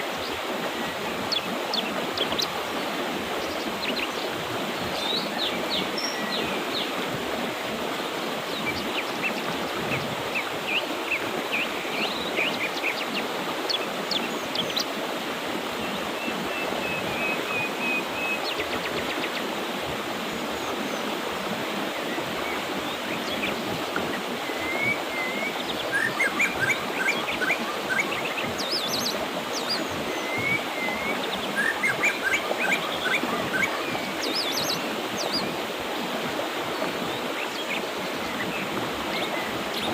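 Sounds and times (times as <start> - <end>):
birds chirping: 0.0 - 15.0, 20.2 - 39.9
mountain river rushing: 0.0 - 39.9.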